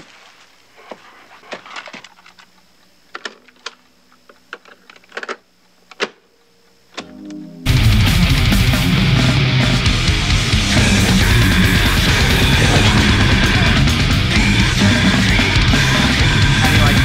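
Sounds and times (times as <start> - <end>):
faint tape hum: 0.0 - 17.0.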